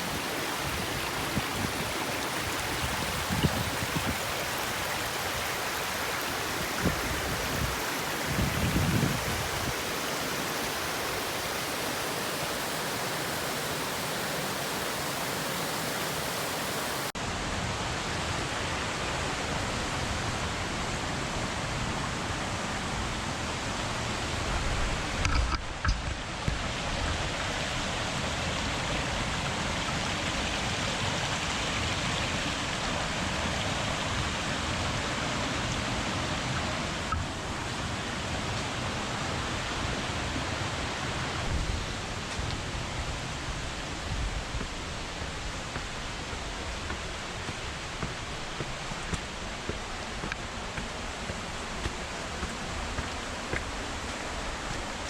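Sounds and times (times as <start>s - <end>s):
waterfall rushing: 0.0s - 17.2s, 27.3s - 55.0s.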